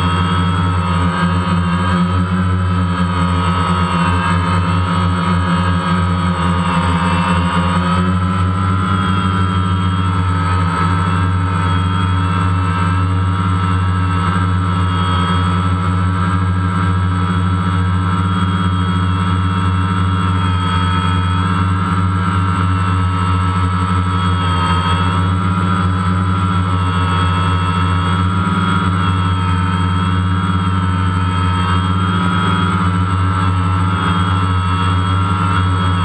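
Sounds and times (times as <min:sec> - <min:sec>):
drone propellers humming: 0:00.0 - 0:36.0.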